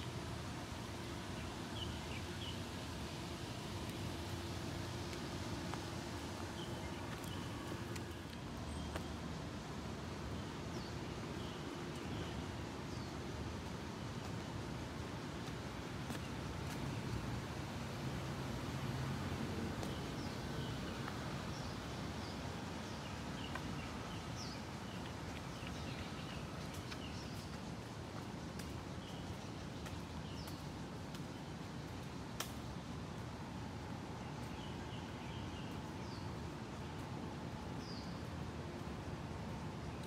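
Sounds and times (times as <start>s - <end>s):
steady low background noise: 0.0s - 40.0s.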